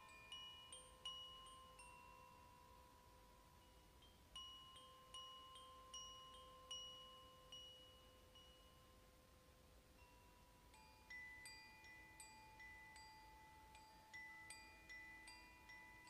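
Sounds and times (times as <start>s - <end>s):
wind chime ringing: 0.0s - 9.2s, 10.0s - 16.0s.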